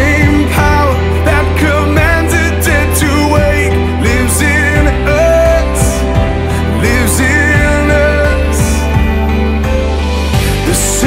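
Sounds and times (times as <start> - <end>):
worship song with bass and drums: 0.0 - 11.0.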